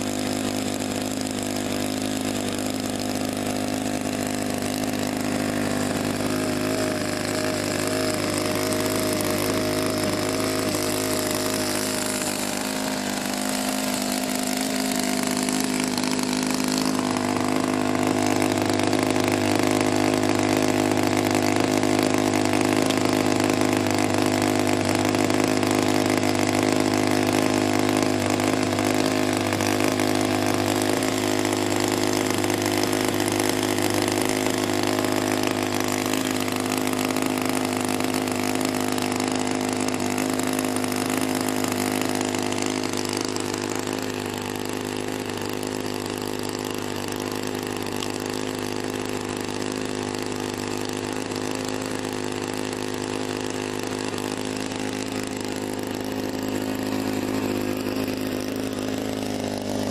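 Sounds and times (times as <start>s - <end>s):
model plane engine running: 0.0s - 59.9s.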